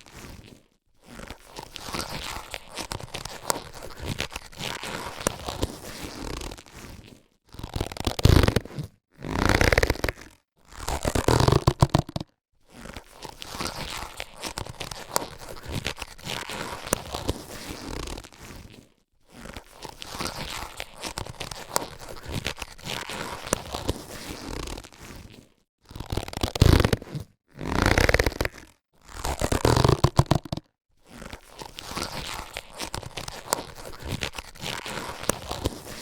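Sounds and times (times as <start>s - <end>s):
latex gloves being handled: 0.0s - 10.3s, 11.0s - 12.3s, 13.2s - 28.7s, 29.3s - 36.0s.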